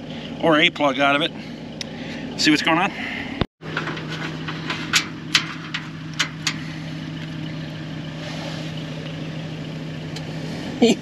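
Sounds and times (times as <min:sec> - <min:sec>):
low hum: 0:01.3 - 0:11.0.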